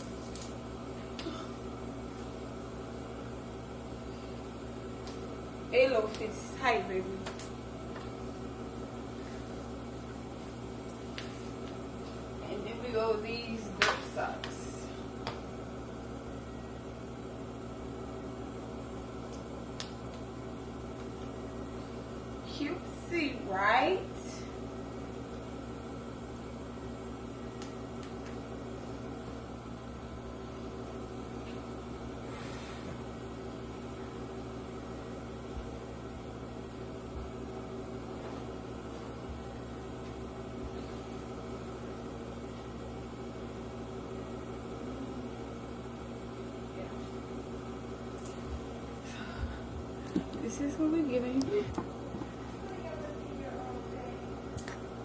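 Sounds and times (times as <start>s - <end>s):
room hum and hiss: 0.0s - 55.0s.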